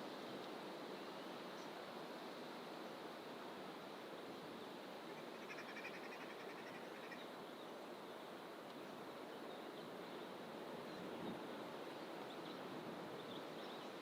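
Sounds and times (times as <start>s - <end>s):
faint outdoor background rush: 0.0s - 14.0s.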